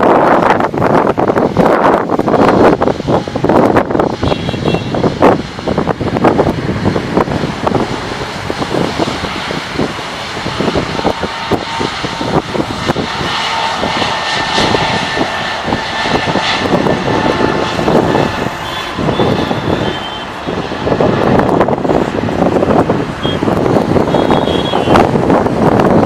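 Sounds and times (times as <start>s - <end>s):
jet engines at takeoff power: 0.0s - 26.0s
wind buffeting microphone: 0.0s - 26.0s.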